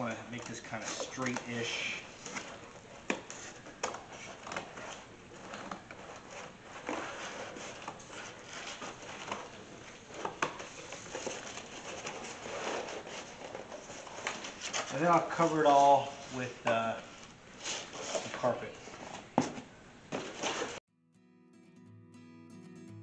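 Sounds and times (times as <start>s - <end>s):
cardboard scraping and rustling: 0.0s - 20.8s.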